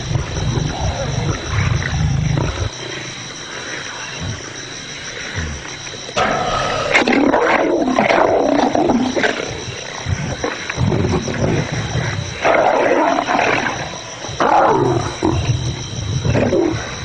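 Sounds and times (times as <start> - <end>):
lions growling and snarling: 0.0 - 17.0.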